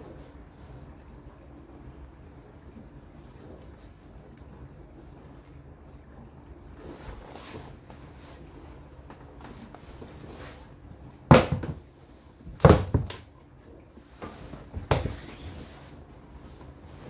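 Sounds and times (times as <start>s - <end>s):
dishwasher humming: 0.0s - 17.0s.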